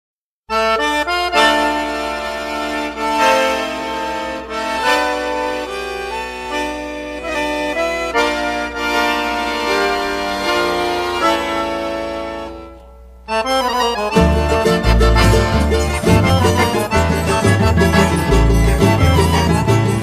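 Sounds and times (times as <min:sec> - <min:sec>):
accordion playing chords: 0:00.5 - 0:20.0.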